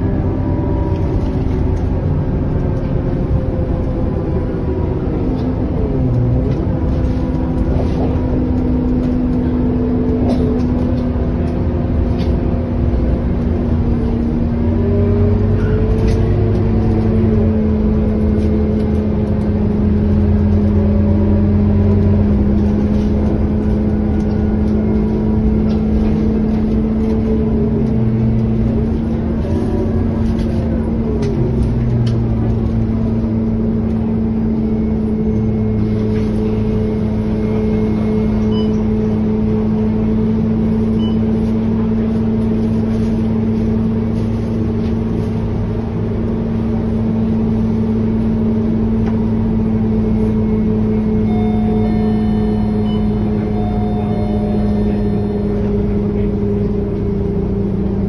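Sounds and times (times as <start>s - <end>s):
bus engine droning hum: 0.0s - 58.0s.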